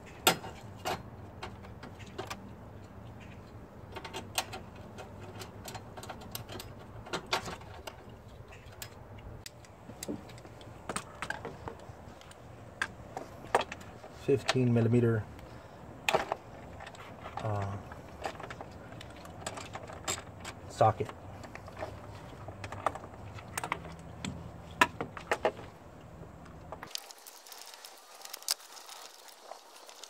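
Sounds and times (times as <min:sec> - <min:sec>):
clicks and rattles of handling parts: 0:00.1 - 0:27.1.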